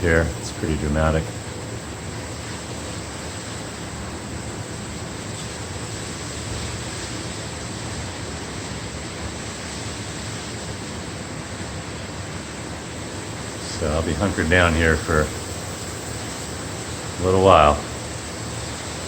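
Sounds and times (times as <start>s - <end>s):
heavy wind-driven rain: 0.0s - 19.0s.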